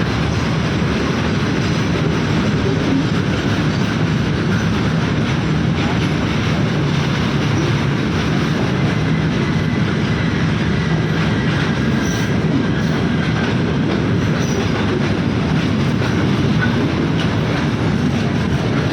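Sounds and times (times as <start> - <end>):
diesel locomotive engine drone: 0.0 - 18.9
rail and wheel noise: 0.0 - 18.9.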